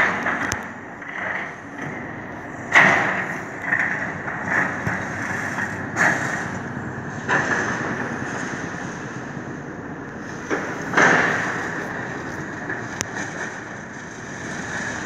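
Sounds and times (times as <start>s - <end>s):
excavator mechanical din: 0.0s - 15.0s.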